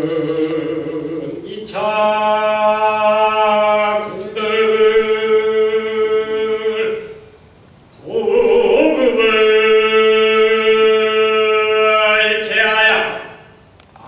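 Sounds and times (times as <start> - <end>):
chanting held notes: 0.0 - 7.3, 8.0 - 13.6.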